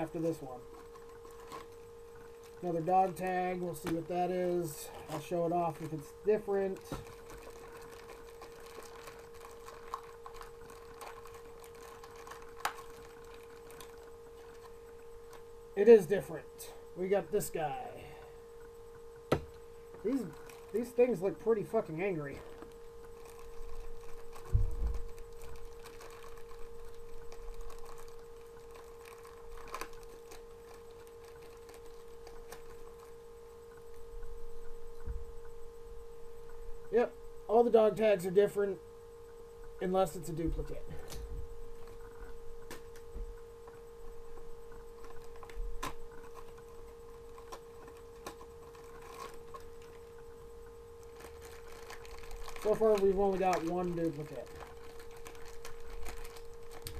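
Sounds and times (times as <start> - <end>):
plastic packaging rustling and clicking: 0.0 - 15.5, 18.6 - 34.3, 40.5 - 56.9
faint steady hum: 0.0 - 56.9.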